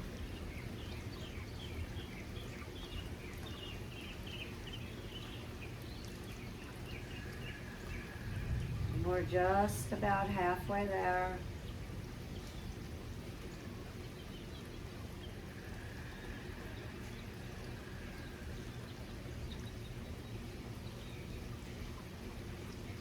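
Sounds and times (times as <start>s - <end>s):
low steady hum: 0.0s - 23.0s
steady rain: 0.0s - 23.0s.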